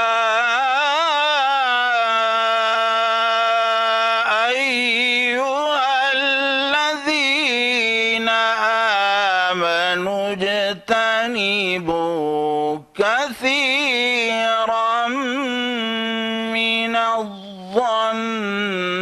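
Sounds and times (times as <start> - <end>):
man chanting melodic recitation: 0.0 - 19.0.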